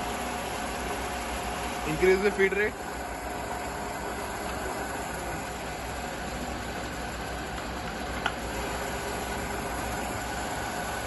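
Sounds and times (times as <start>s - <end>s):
milling machine humming: 0.0s - 11.0s.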